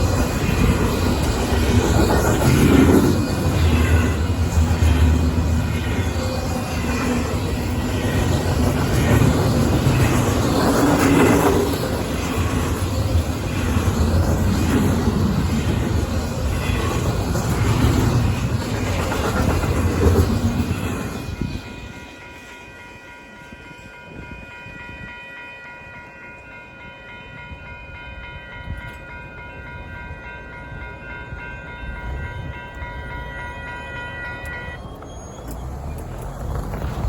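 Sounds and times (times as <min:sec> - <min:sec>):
crossing warning bell ringing: 0:00.0 - 0:37.0
freight train rumbling past: 0:00.0 - 0:37.0.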